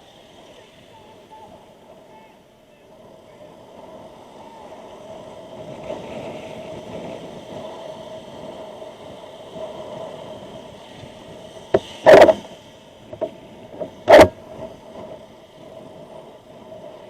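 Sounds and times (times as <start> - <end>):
wind roar: 0.0 - 17.0
motorcycle riding rush and hum: 3.3 - 17.0.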